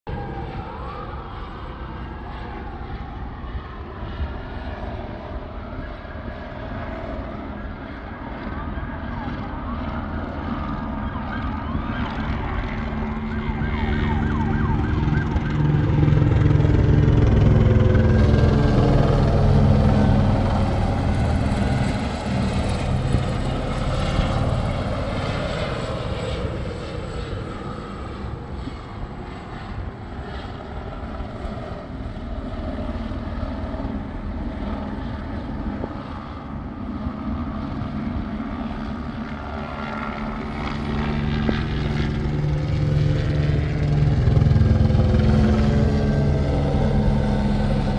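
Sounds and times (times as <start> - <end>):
helicopter rotor beating: 0.1 - 47.9.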